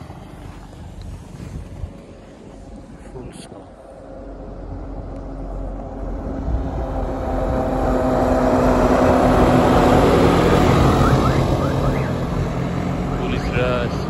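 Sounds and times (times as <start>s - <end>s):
snowmobile engine passing: 0.0s - 14.0s.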